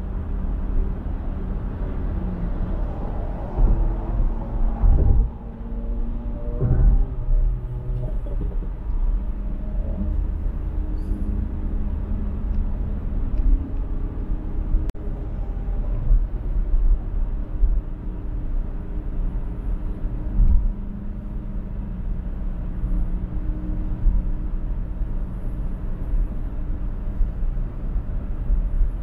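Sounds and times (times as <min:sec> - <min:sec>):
road and tyre rumble: 0:00.0 - 0:29.0.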